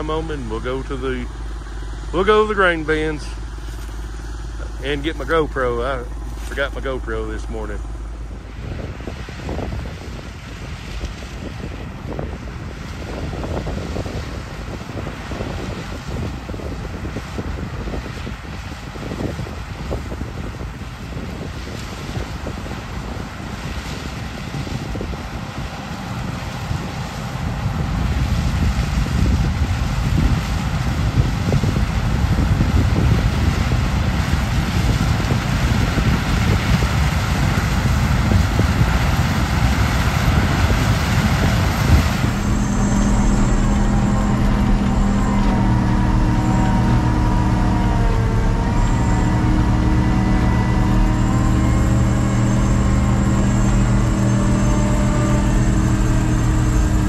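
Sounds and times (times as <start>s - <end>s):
heavy diesel engine running: 0.0s - 57.0s
low hum: 0.0s - 57.0s
road noise: 0.0s - 57.0s
rough wind noise: 0.0s - 57.0s.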